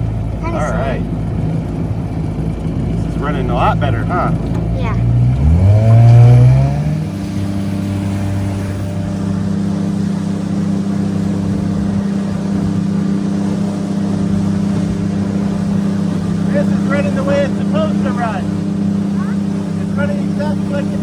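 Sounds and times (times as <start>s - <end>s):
outboard motor revving: 0.0s - 21.0s.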